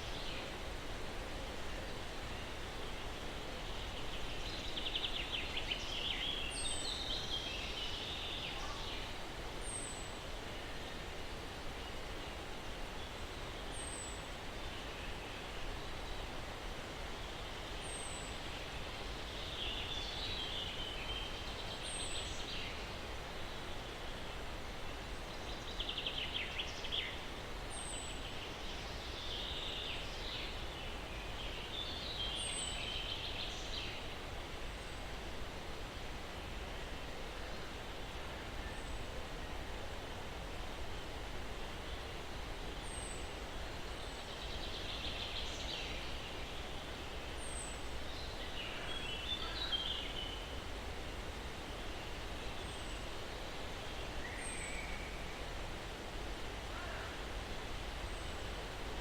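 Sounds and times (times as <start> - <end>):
breeze through pine trees: 0.0 - 59.0.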